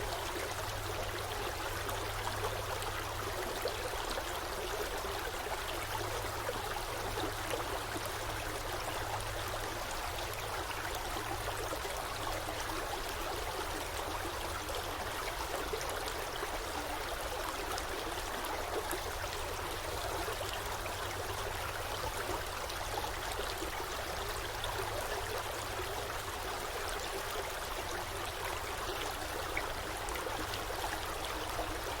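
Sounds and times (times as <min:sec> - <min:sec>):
stream flowing over rocks: 0:00.0 - 0:32.0.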